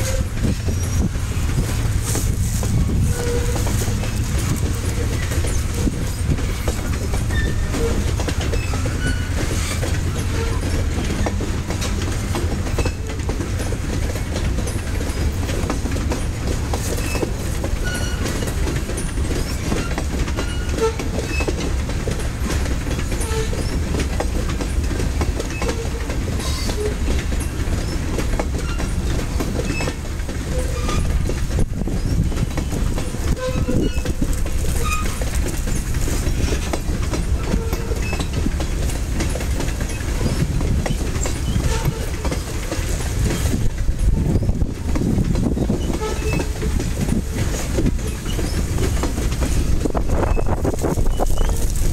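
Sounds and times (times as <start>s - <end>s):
freight train rumbling past: 0.0s - 51.9s
wheels clacking over rail joints: 0.0s - 51.9s.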